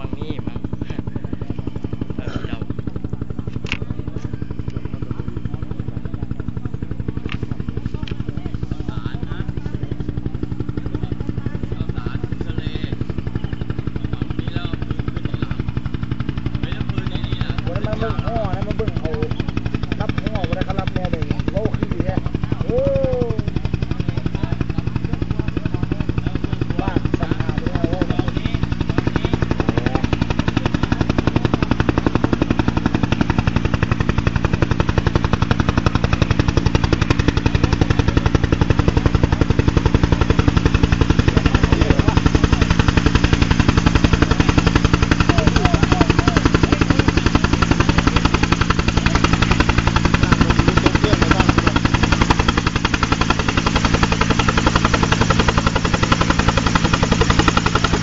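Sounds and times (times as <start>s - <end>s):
helicopter engine whine: 0.0s - 58.0s
helicopter rotor chopping: 0.0s - 58.0s.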